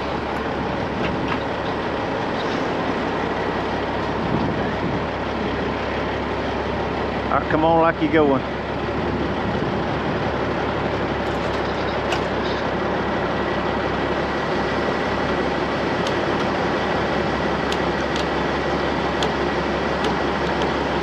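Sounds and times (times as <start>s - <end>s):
heavy diesel equipment running: 0.0s - 21.0s.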